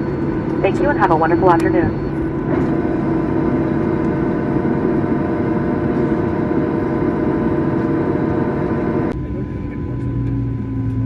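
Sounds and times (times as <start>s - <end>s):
jet engines idling in cabin: 0.0s - 11.0s.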